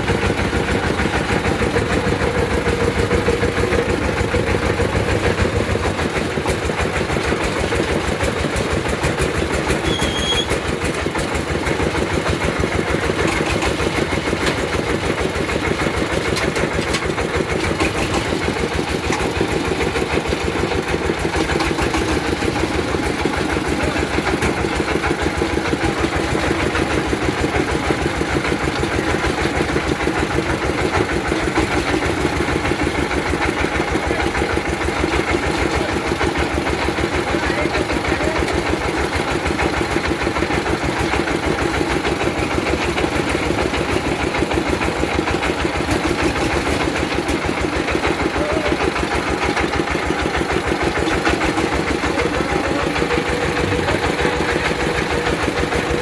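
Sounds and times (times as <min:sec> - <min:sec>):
drilling rig engine running: 0:00.0 - 0:56.0.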